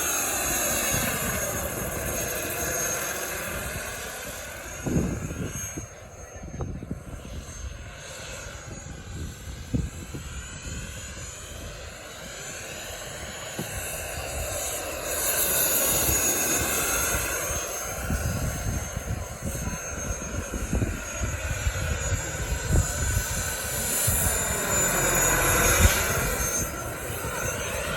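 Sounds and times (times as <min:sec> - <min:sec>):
model helicopter turbine whine: 0:00.0 - 0:27.9.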